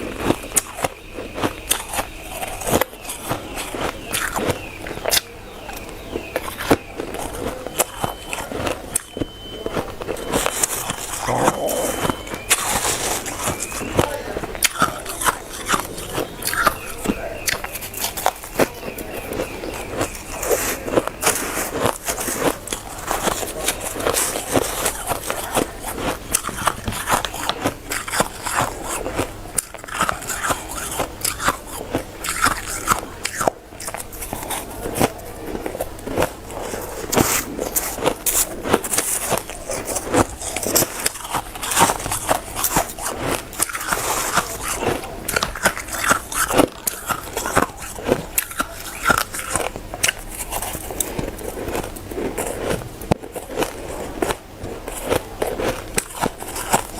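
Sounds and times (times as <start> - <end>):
chewing crunchy shaved ice: 0.0 - 56.9.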